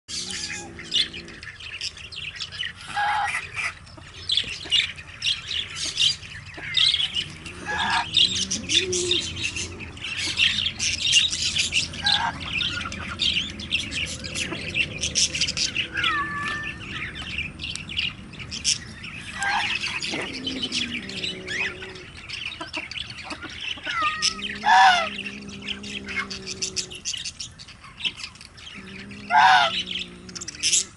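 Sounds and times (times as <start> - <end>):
birds chirping and squawking: 0.1 - 30.9.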